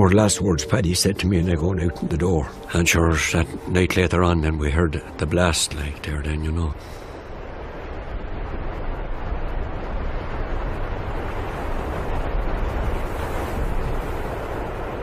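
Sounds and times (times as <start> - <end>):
rushing rumbling noise: 0.0 - 15.0.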